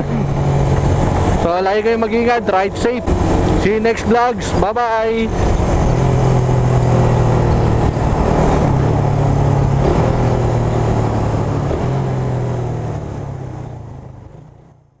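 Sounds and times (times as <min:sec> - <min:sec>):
wind rushing over microphone: 0:00.0 - 0:12.7
motorcycle engine running: 0:00.0 - 0:14.6.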